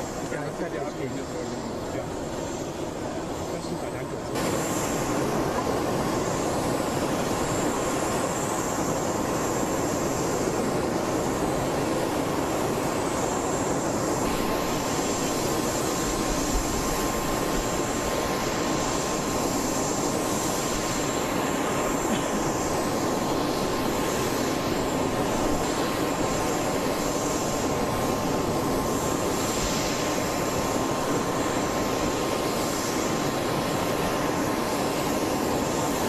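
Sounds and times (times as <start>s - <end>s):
jet engine roar with whine: 0.0s - 36.0s.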